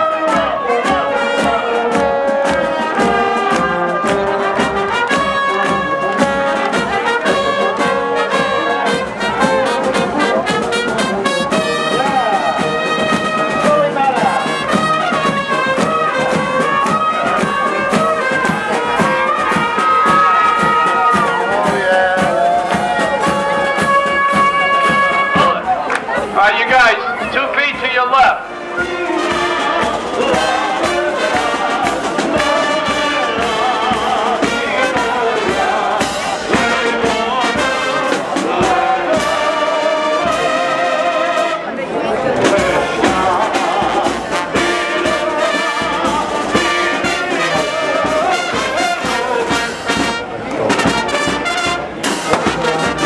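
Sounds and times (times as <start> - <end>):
brass band playing: 0.0 - 53.0.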